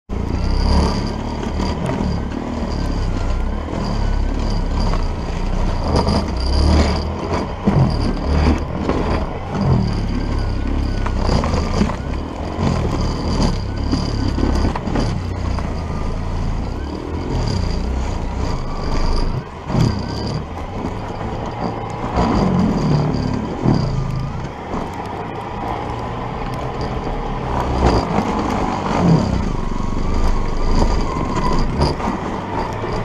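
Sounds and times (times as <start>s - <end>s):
auger churning snow: 0.1s - 33.0s
electric motor whine: 0.1s - 33.0s.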